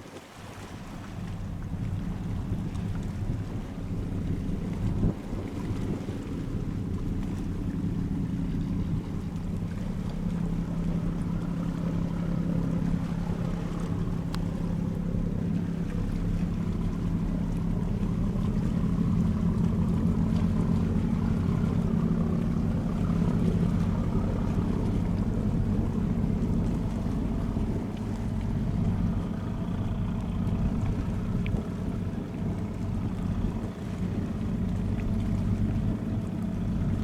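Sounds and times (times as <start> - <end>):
water noise: 0.0 - 37.0
ferry engines humming: 0.6 - 37.0.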